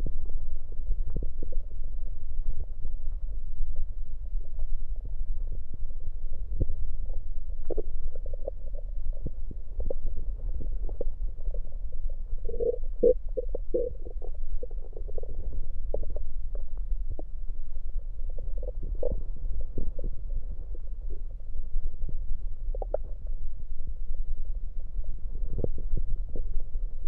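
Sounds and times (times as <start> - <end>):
stomach gurgling and rumbling: 0.0 - 27.0.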